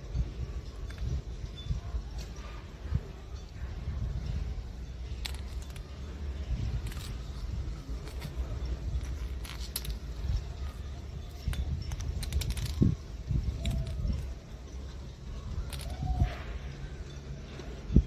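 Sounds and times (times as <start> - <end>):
steady low rumble: 0.0 - 18.0
toy clicking and rattling on stone: 0.0 - 18.0.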